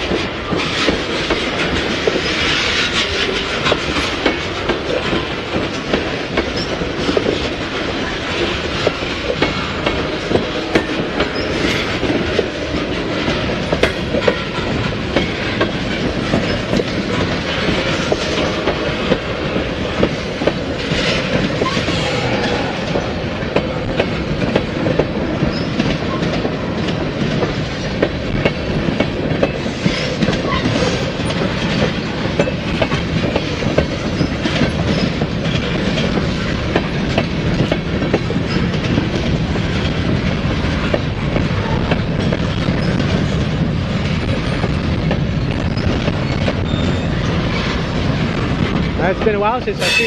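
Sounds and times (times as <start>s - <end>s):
steel wheels rumbling on rail: 0.0s - 50.0s
wheels clicking over rail joints: 0.0s - 50.0s.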